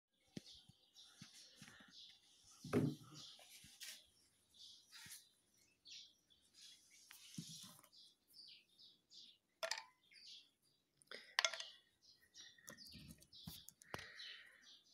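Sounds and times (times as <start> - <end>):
small birds chirping: 0.2 - 14.9.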